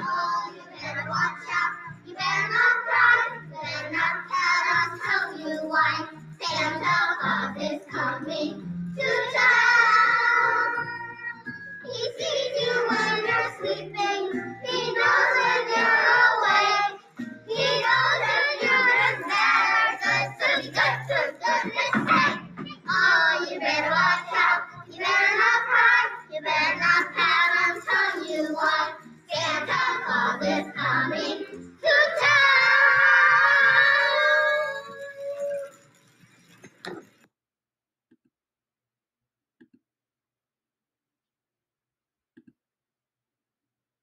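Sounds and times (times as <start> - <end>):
children singing: 0.0 - 35.4.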